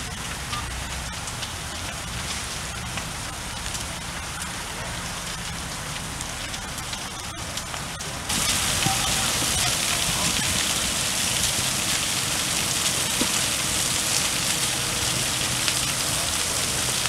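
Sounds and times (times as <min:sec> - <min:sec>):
falling water pattering: 0:00.0 - 0:17.0.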